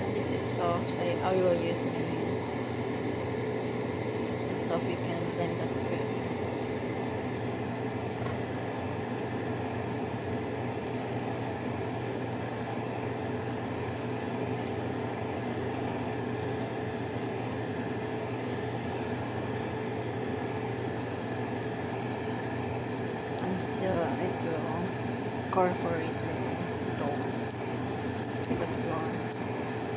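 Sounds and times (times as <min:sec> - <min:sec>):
steady mechanical hum: 0:00.0 - 0:29.9.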